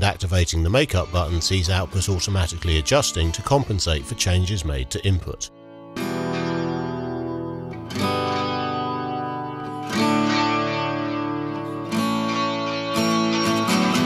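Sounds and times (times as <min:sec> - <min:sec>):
guitar chords with delay: 0:00.7 - 0:14.0.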